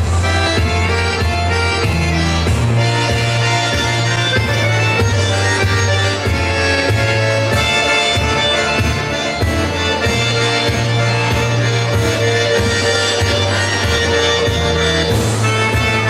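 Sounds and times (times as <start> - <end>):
folk ensemble playing: 0.0 - 16.0.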